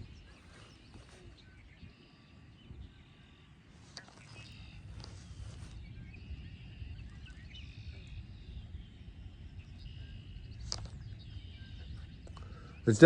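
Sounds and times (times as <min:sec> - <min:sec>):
birds chirping: 0:00.0 - 0:13.0
wind buffeting microphone: 0:00.0 - 0:13.0.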